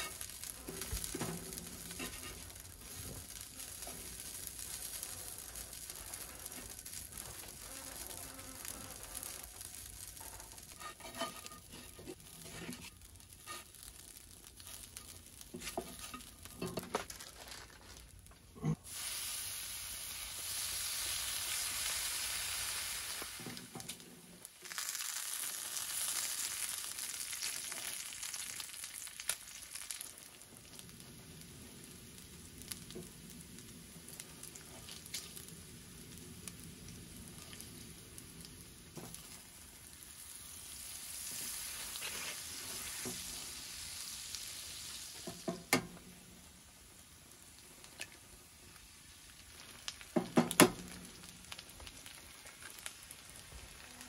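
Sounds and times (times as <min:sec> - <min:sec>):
food frying hiss: 0:00.0 - 0:54.0.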